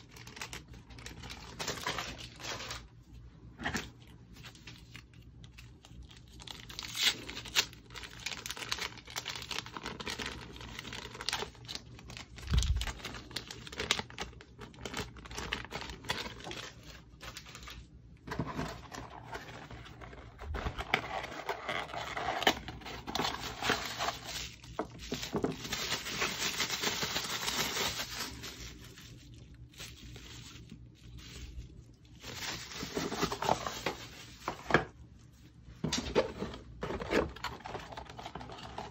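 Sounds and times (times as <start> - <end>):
plastic and bubble wrap crinkling: 0.0 - 38.9.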